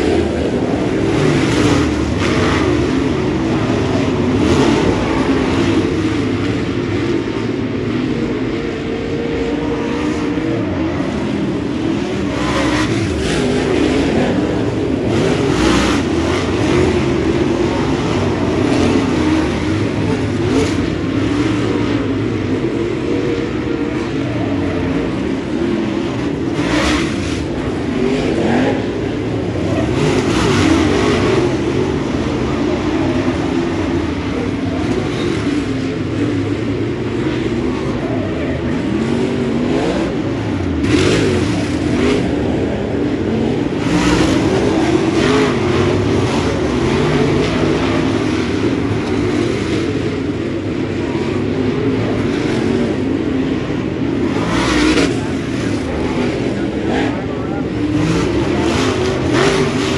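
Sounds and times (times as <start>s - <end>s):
race car engines: 0.0s - 59.9s.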